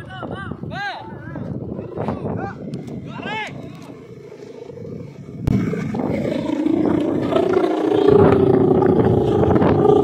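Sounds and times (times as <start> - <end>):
wind rumble on microphone: 0.0 - 10.0
kite hummer droning: 1.2 - 10.0.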